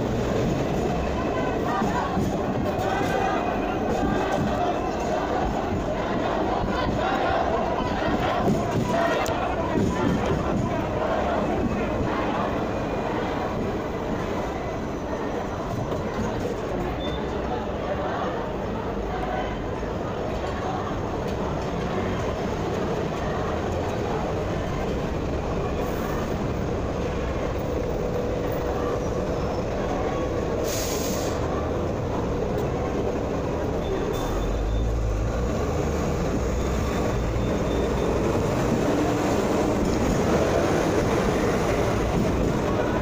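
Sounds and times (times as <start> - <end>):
tram wheels rumbling on rails: 0.0 - 43.0.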